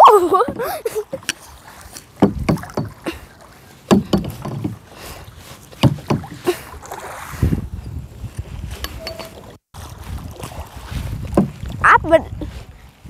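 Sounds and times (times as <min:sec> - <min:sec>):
paddle strokes knocking and splashing: 0:00.0 - 0:13.0.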